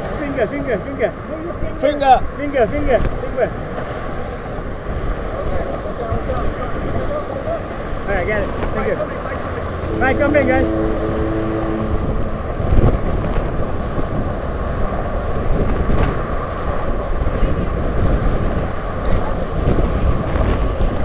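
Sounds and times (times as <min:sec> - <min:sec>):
car traffic passing: 0:00.0 - 0:19.0
wind buffeting microphone: 0:01.2 - 0:21.0.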